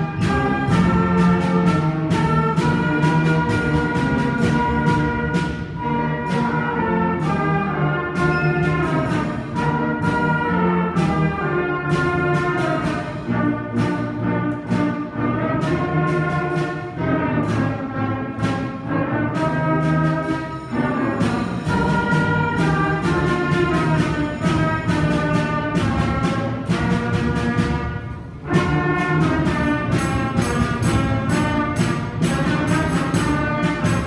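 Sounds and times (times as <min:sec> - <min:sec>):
concert band playing: 0:00.0 - 0:34.0
percussion strikes: 0:00.0 - 0:34.0.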